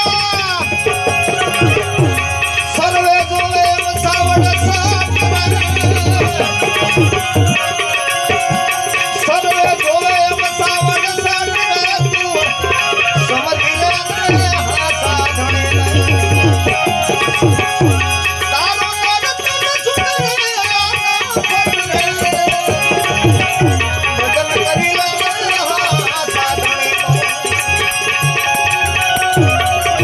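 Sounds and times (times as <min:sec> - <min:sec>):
rattling hand percussion: 0:00.0 - 0:30.0
tabla strokes: 0:00.0 - 0:30.0
wavering melody line: 0:00.0 - 0:30.0.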